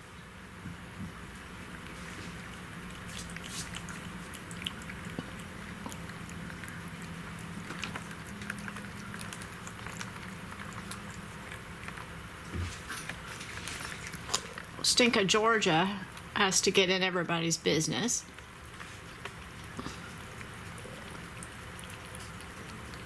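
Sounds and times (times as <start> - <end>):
cats lapping yogurt: 0.3 - 17.0, 18.2 - 23.0.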